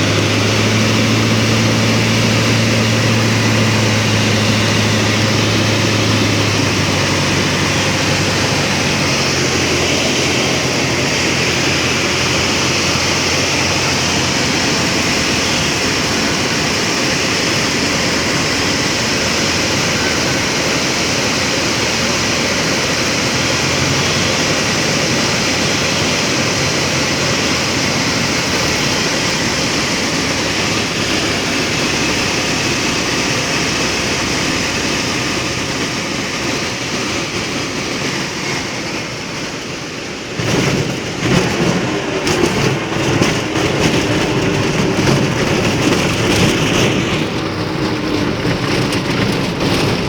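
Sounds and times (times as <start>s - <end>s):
light aircraft engine: 0.0s - 50.0s
wheels rumbling on runway: 0.0s - 50.0s.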